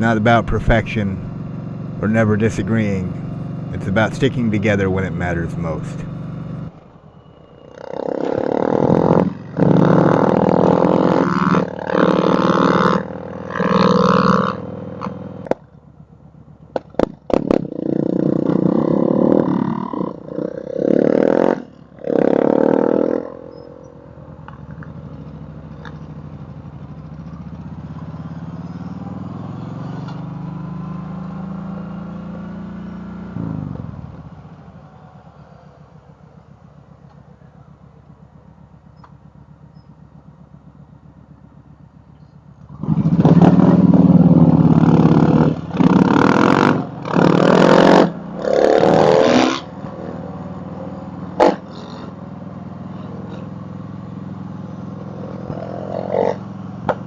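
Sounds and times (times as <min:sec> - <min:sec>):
motorcycle engine revving: 0:00.0 - 0:57.0
motorcycle pulling away: 0:00.0 - 0:57.0.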